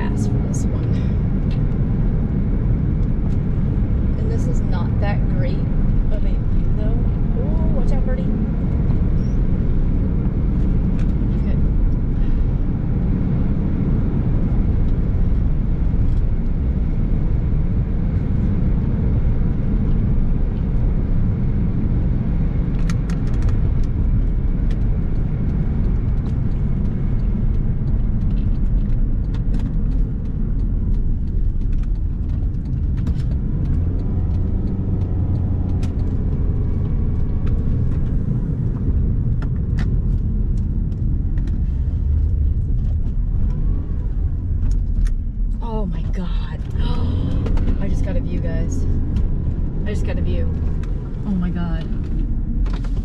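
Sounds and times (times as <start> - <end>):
car driving on road: 0.0 - 53.0.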